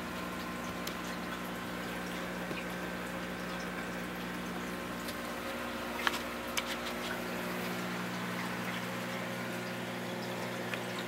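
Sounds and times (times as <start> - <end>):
pump humming: 0.0 - 11.0
water bubbling: 0.0 - 11.0.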